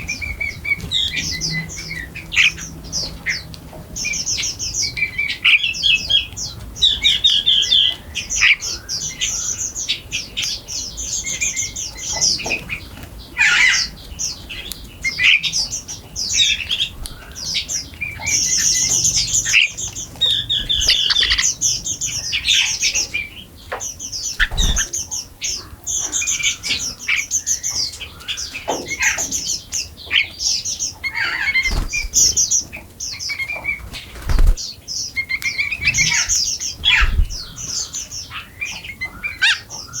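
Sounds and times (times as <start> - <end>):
small birds chirping and squawking: 0.0 - 40.0.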